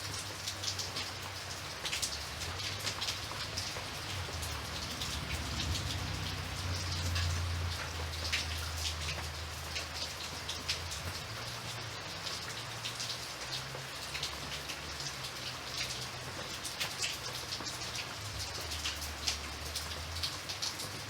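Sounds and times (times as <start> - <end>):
rain drops pattering: 0.0 - 21.0.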